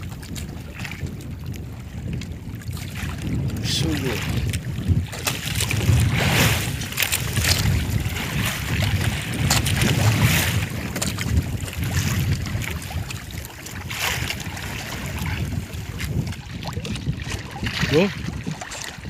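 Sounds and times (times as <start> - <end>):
water lapping against boat hull: 0.0 - 19.0
wind buffeting microphone: 0.0 - 19.0.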